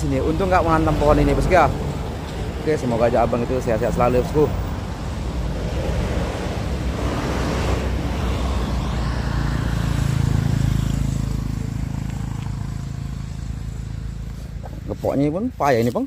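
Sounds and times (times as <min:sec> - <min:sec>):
vehicle engine passing: 0:00.0 - 0:15.6
wind and road noise: 0:00.0 - 0:16.0.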